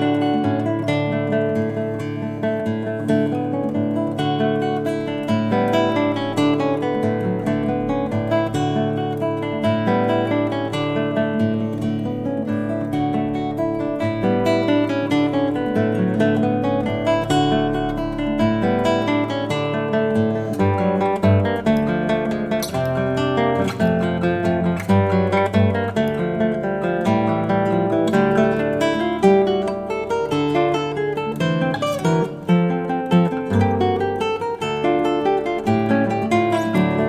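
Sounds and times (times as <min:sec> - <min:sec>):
classical guitar melody: 0:00.0 - 0:37.0.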